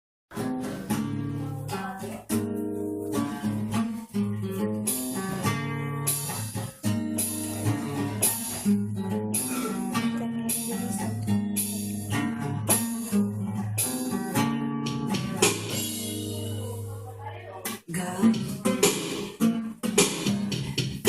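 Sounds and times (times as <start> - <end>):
acoustic guitar strumming chords: 0.3 - 21.0.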